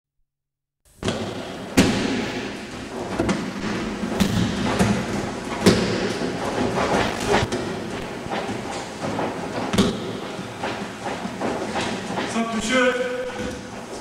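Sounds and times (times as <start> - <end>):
bodies slapping onto mats: 0.9 - 12.3
background noise in hall: 0.9 - 14.0.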